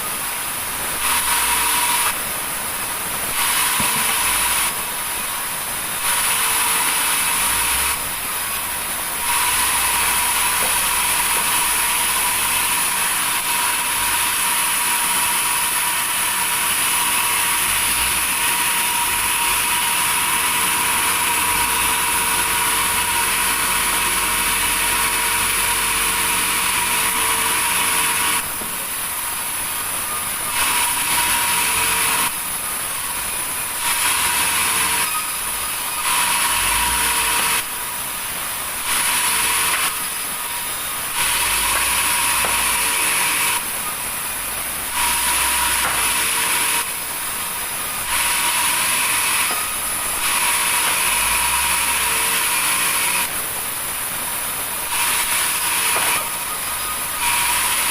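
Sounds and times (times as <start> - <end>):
saw cutting timber: 0.8 - 2.2, 3.2 - 57.9.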